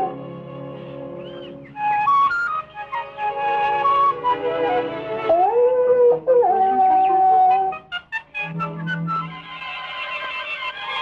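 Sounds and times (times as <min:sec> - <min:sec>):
held notes of background music: 0:00.0 - 0:11.0.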